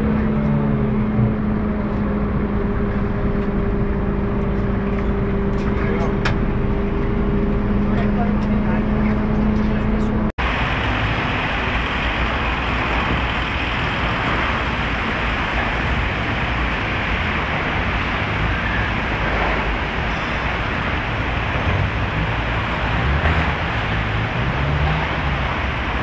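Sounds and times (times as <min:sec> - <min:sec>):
road traffic rumble and hiss: 0:00.0 - 0:26.0.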